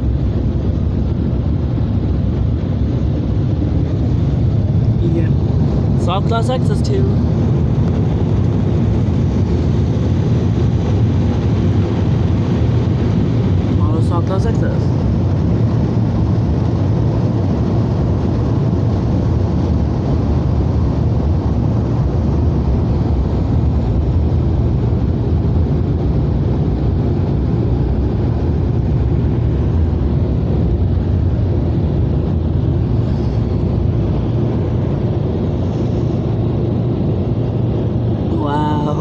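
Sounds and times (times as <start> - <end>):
car wash low rumble: 0.0 - 39.0.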